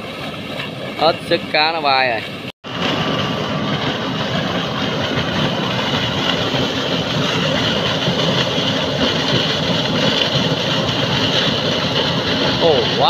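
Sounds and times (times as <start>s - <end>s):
pump engine running: 0.0s - 13.0s
water gushing into river: 0.0s - 13.0s.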